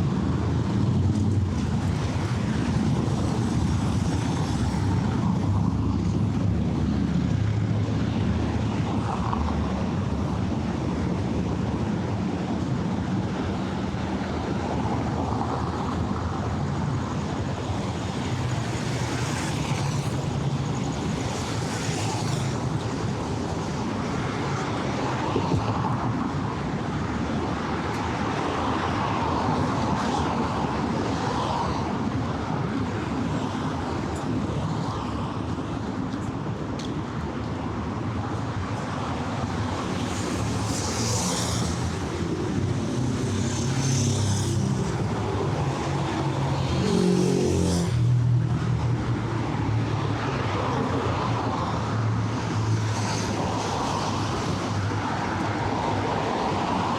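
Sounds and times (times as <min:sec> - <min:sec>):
vehicle engines rumbling: 0:00.0 - 0:56.9.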